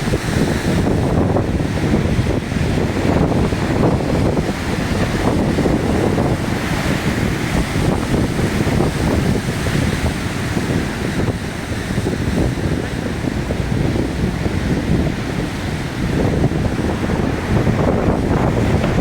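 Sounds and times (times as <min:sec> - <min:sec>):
heavy surf breaking: 0:00.0 - 0:19.0
wind blowing on microphone: 0:00.0 - 0:19.0.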